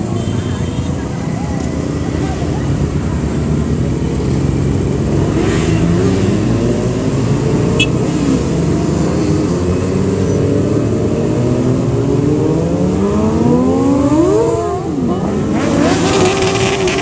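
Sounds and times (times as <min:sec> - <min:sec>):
sportbike engines passing: 0:01.0 - 0:17.0.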